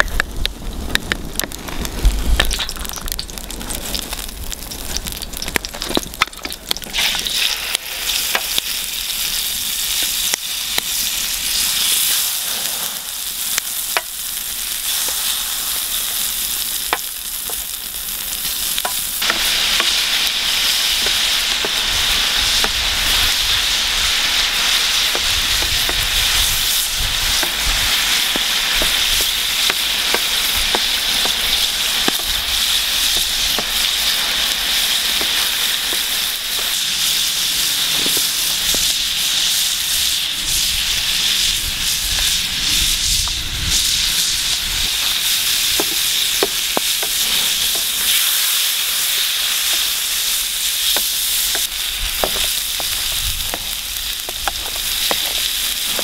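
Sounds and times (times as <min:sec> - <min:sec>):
squid frying in hot oil: 0:00.0 - 0:56.0.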